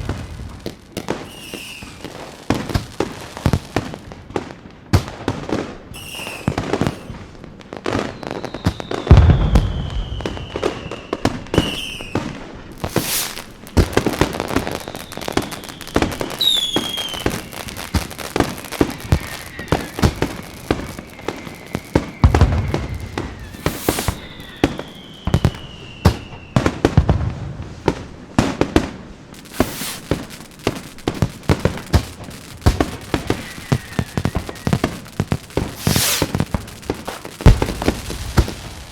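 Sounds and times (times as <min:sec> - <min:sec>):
falling firework whistles: 0:00.0 - 0:04.5, 0:05.5 - 0:38.9
fireworks bangs and crackling: 0:00.0 - 0:38.9
deep firework booms: 0:06.4 - 0:38.9.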